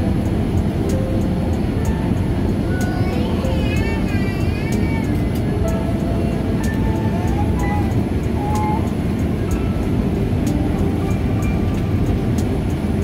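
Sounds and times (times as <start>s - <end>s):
faint melodic notes: 0.0s - 13.0s
jet engines and airflow rush: 0.0s - 13.0s.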